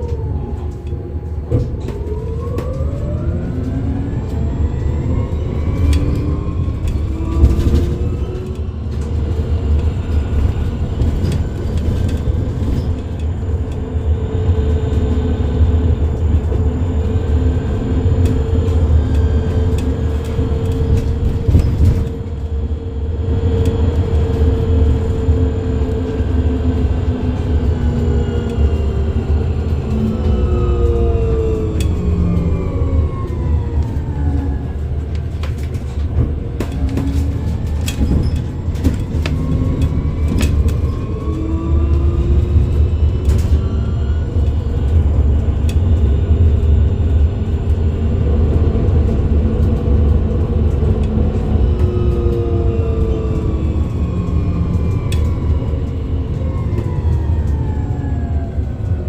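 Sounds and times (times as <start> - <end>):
electric bus motor whining: 0.0 - 59.0
low road rumble: 0.0 - 59.0.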